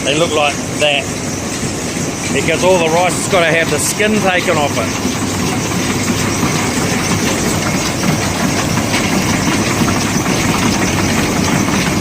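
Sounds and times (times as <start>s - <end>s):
rice milling machine running: 0.0s - 12.0s.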